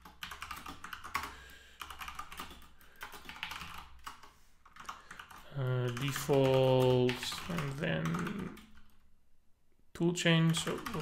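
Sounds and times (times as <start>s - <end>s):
computer keyboard typing: 0.0s - 9.0s, 10.4s - 11.0s.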